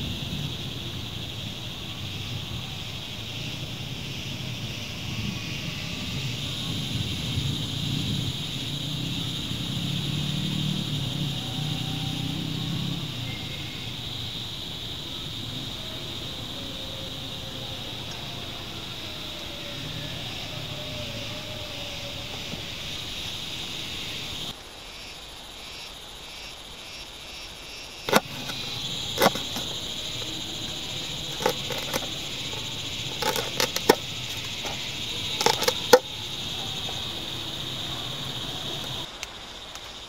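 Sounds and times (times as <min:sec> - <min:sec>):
insects shrilling: 0:00.0 - 0:40.0.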